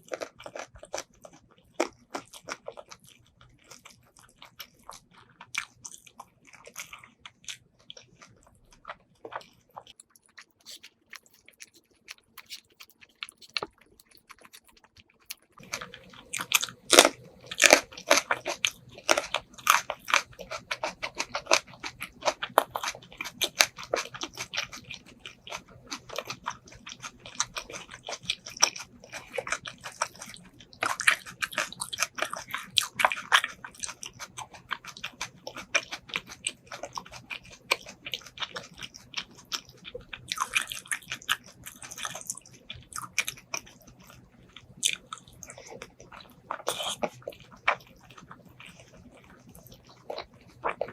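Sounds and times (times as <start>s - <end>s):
crunchy chewing and biting: 0.0s - 50.9s.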